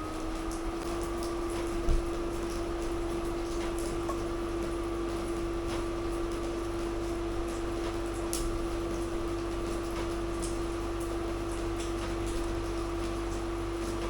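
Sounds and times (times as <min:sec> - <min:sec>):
machine hum with steady tone: 0:00.0 - 0:14.0.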